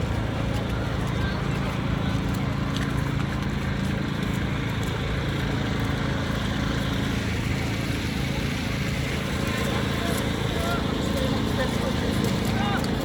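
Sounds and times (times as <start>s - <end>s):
city street noise: 0.0s - 13.0s
vehicle engine idling: 0.0s - 13.0s.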